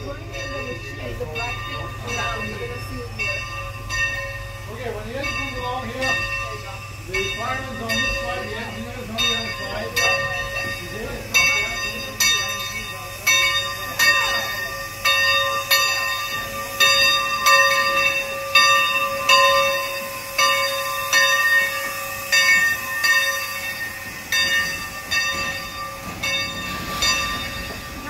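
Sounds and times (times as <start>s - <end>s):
locomotive bell ringing: 0.0s - 28.0s.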